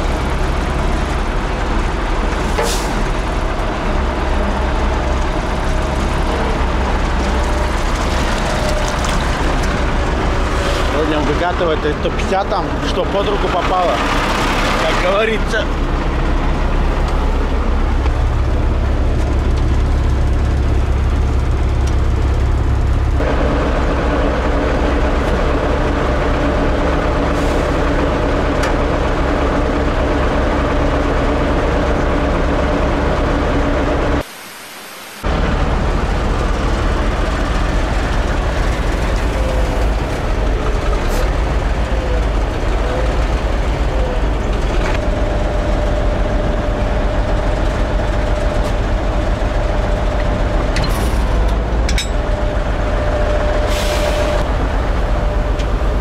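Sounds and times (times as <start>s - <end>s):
tractor diesel engine running: 0.0s - 34.3s, 35.2s - 56.0s.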